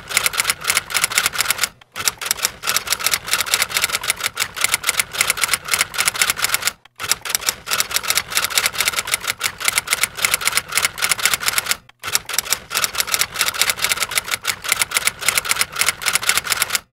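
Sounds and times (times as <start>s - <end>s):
fast sharp mechanical clicks: 0.0s - 16.9s.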